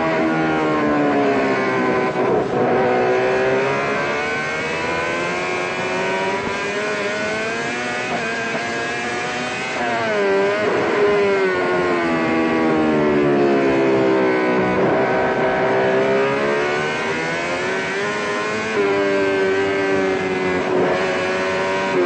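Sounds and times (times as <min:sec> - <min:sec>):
motorcycle engine revving high: 0:00.0 - 0:22.0.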